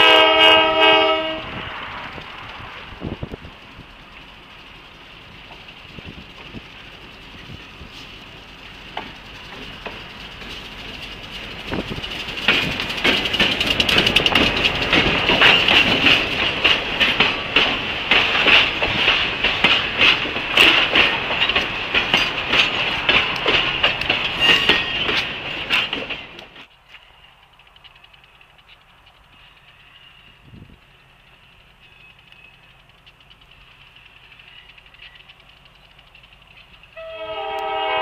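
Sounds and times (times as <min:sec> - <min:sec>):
freight train passing: 0:00.0 - 0:38.0
wheel clicks over rail joints: 0:01.8 - 0:37.0.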